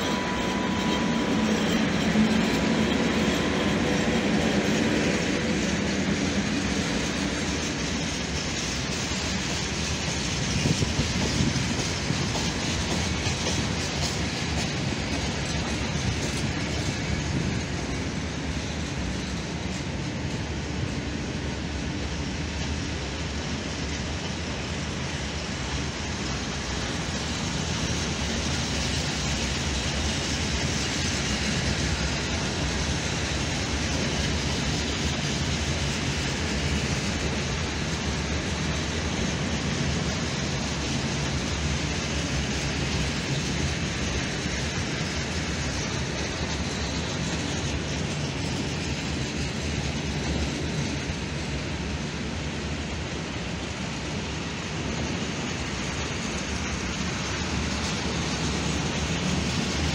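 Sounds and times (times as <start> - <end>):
steel wheels on rails: 0.0 - 59.9.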